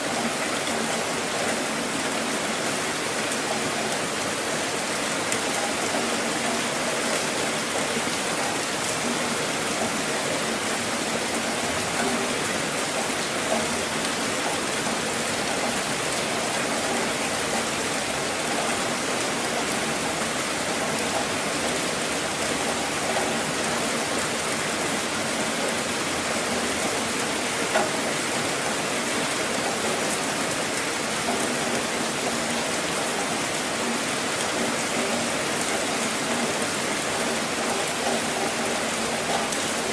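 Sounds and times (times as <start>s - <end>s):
rain drumming on a car roof: 0.0s - 39.9s.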